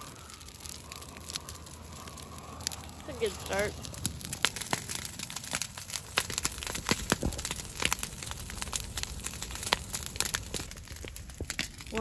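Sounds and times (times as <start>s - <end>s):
dry cattails crackling and popping: 0.0s - 12.0s.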